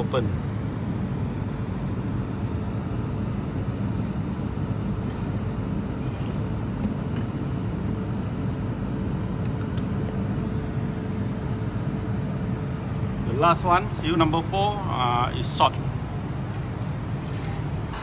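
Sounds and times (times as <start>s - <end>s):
faint steady hum: 0.0s - 18.0s
low background rumble: 0.0s - 18.0s.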